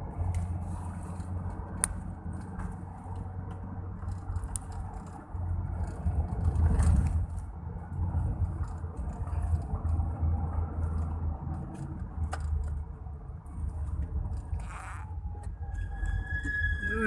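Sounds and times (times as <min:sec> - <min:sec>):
engine and road rumble in car: 0:00.0 - 0:17.0.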